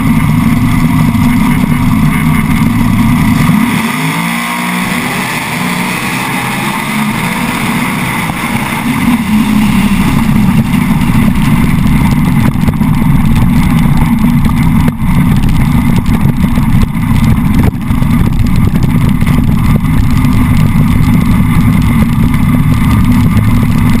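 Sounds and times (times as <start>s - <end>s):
engine running at steady throttle: 0.0s - 24.0s.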